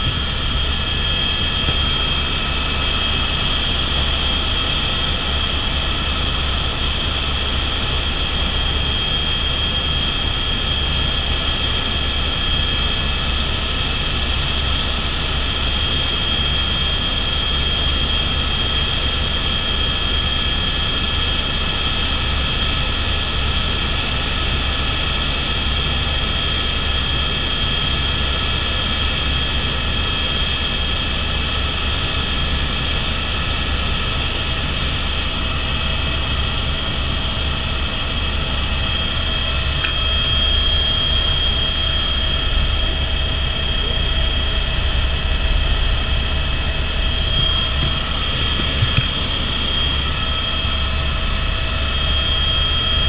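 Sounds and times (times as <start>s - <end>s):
helicopter drone with high whine: 0.0s - 53.0s.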